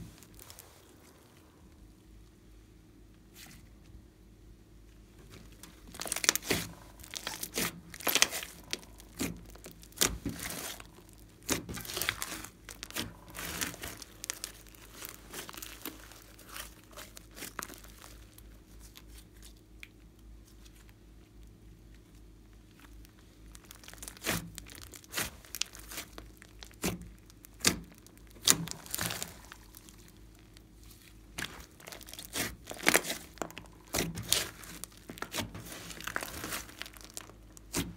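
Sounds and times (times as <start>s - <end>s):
slime squished by hand: 5.2s - 37.9s.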